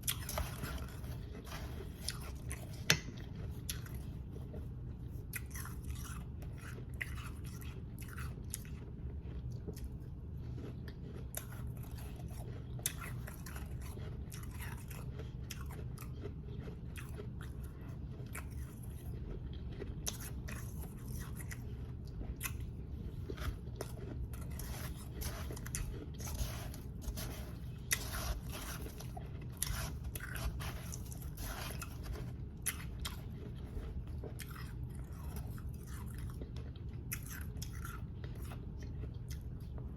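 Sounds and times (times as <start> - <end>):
chewing crunchy ice: 0.0 - 39.9
steady low hum: 0.0 - 39.9.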